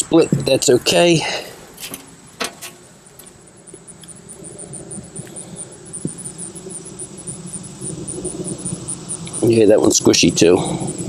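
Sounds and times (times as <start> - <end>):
high-pitched insect chirping: 0.1 - 11.0.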